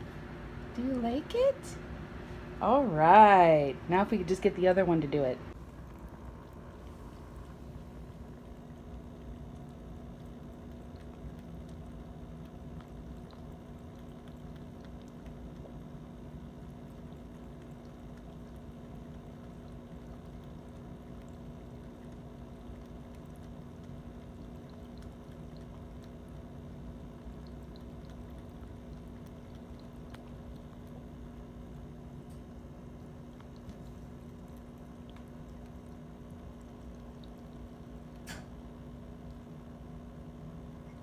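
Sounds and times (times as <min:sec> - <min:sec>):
pump humming: 0:00.0 - 0:41.0
water trickling: 0:05.5 - 0:41.0.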